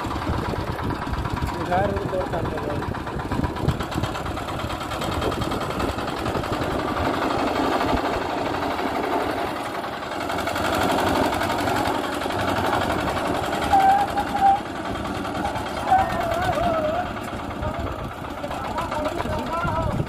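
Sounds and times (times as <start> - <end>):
concrete mixer engine running: 0.0 - 20.0.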